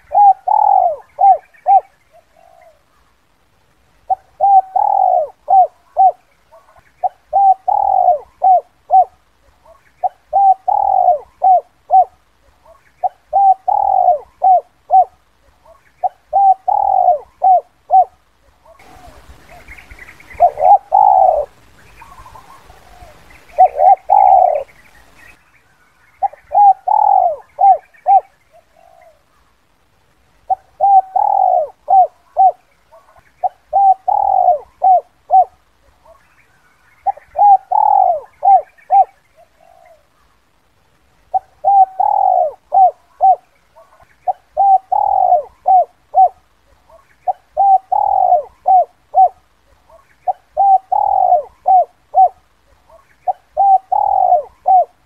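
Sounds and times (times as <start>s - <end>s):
dove cooing: 0.0s - 3.0s, 4.0s - 25.2s, 26.2s - 29.5s, 30.4s - 36.4s, 37.0s - 40.4s, 41.2s - 55.0s
faint hiss: 0.0s - 55.0s.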